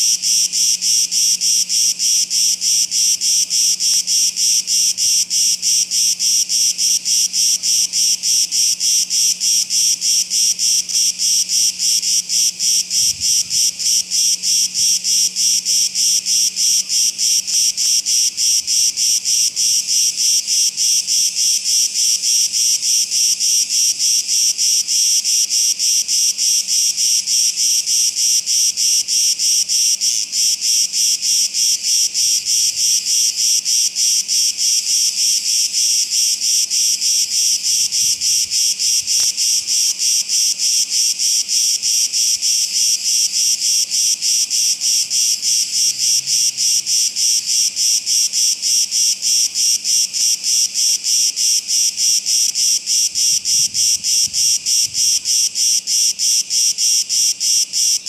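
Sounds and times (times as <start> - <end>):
cicadas shrilling: 0.0 - 58.0.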